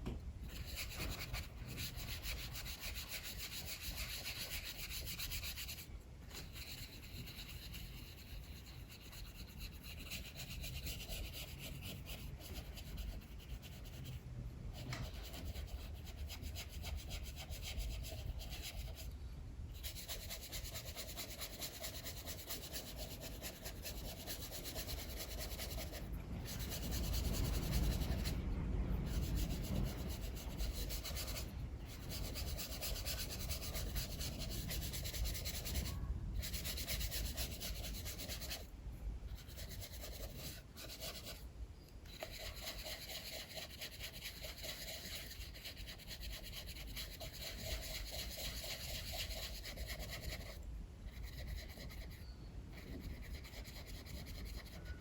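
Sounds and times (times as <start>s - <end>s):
pencil strokes scratching paper: 0.4s - 19.1s, 19.7s - 38.7s, 39.3s - 41.4s, 42.0s - 55.0s.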